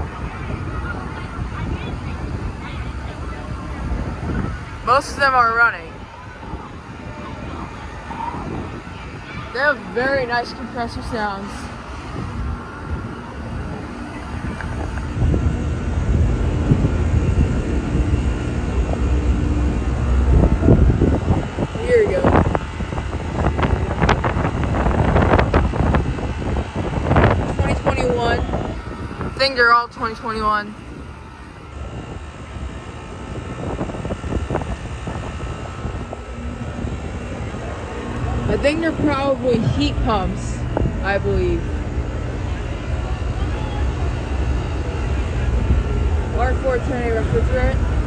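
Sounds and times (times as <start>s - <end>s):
air conditioner units droning: 0.0s - 48.0s.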